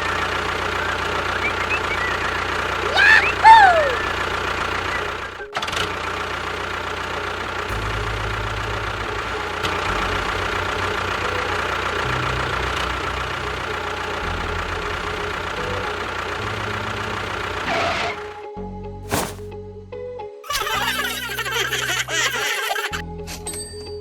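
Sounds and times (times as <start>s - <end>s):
motor humming: 0.0s - 17.7s, 20.5s - 23.0s.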